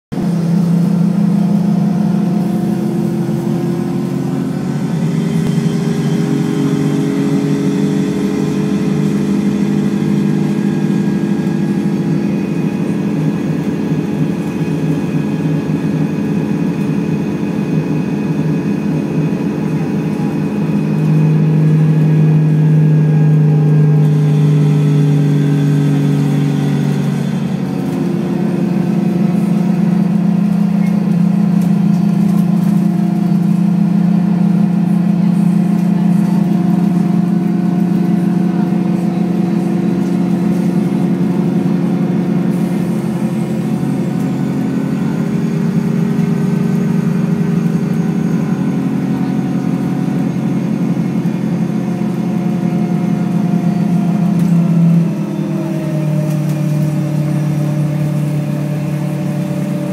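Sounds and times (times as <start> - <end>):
bus engine droning: 0.1 - 59.9.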